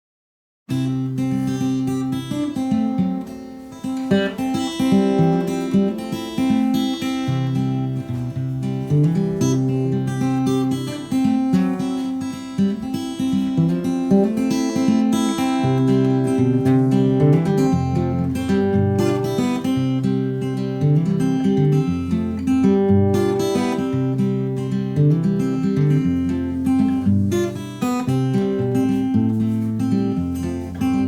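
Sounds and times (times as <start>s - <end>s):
acoustic guitar strumming: 0.7s - 31.0s.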